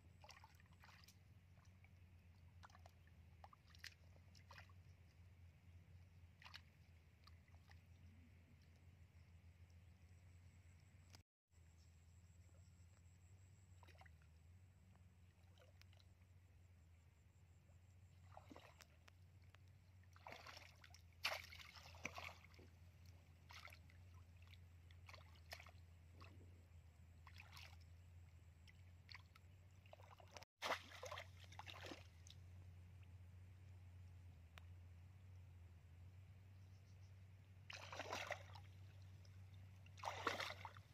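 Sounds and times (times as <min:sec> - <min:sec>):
muddy water splashing: 0:00.0 - 0:11.2, 0:13.4 - 0:17.0, 0:17.8 - 0:34.1, 0:36.7 - 0:40.9
low hum: 0:00.0 - 0:40.9.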